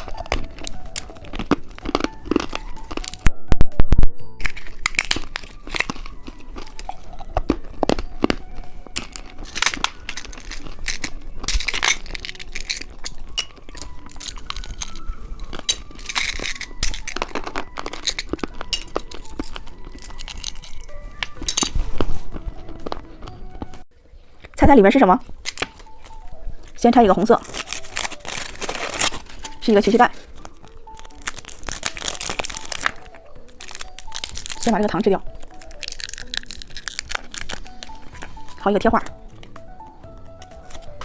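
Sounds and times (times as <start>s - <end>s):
candy wrappers crinkling and tearing: 0.0s - 3.3s, 4.4s - 24.6s, 25.2s - 41.0s
soft background music: 0.0s - 41.0s.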